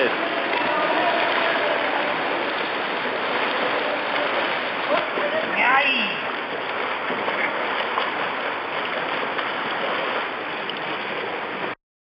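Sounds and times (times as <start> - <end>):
water splashing in a pool: 0.0 - 11.8.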